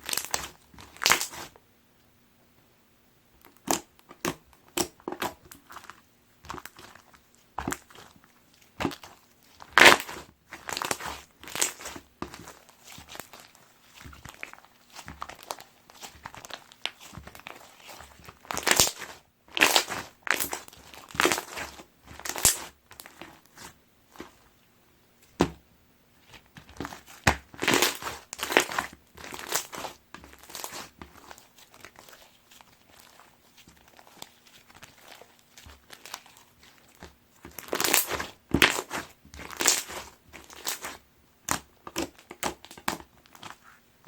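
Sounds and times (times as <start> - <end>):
slime crackling squishes: 0.0 - 1.6, 3.4 - 24.6, 26.2 - 43.8.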